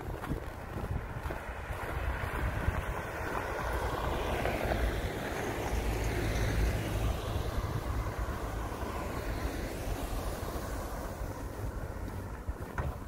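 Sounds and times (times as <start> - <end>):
cars driving past: 0.1 - 13.0.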